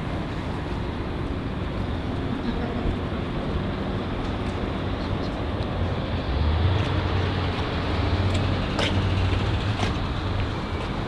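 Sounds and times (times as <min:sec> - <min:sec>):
road traffic rumble: 0:00.0 - 0:11.0
vehicles idling: 0:00.0 - 0:11.0.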